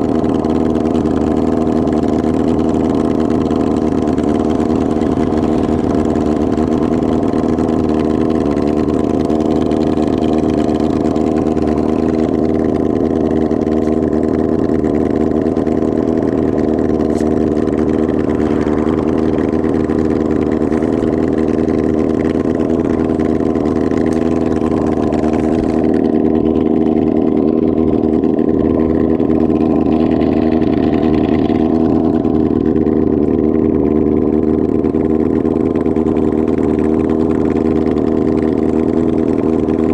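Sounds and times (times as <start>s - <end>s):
unmuffled motorcycle engine running: 0.0s - 39.9s.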